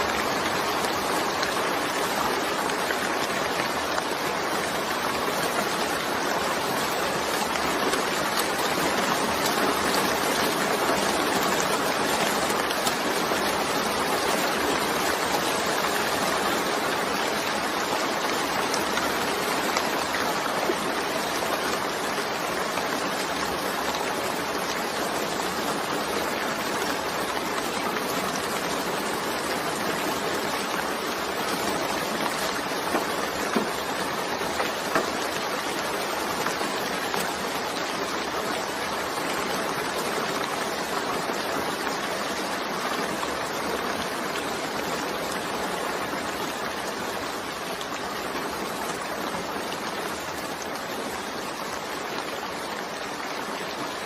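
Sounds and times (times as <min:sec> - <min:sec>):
dense rainfall hiss: 0:00.0 - 0:54.0.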